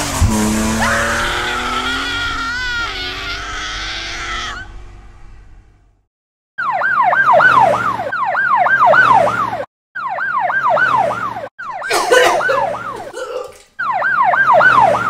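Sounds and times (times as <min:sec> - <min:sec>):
police siren yelping: 0:00.5 - 0:04.8, 0:06.6 - 0:15.0.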